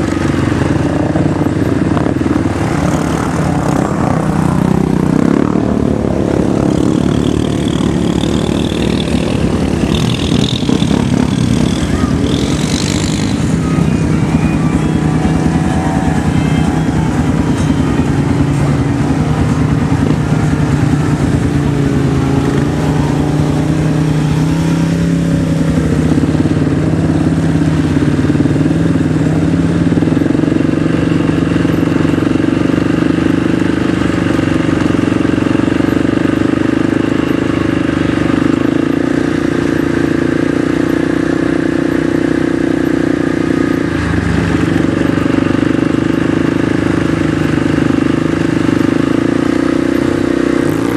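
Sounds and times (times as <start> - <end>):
vehicle engine running under load: 0.0 - 50.9.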